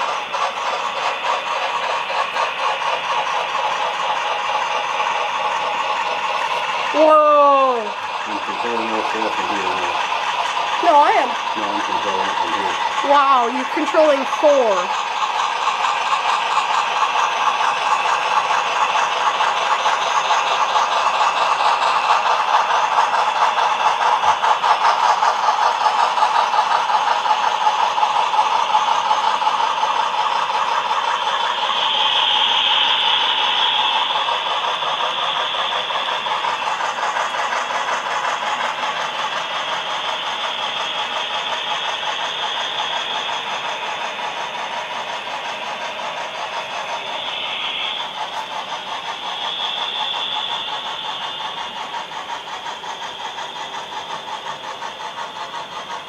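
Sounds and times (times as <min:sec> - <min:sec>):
fast continuous ticking: 0:00.0 - 0:56.0
model trains whirring: 0:00.0 - 0:56.0.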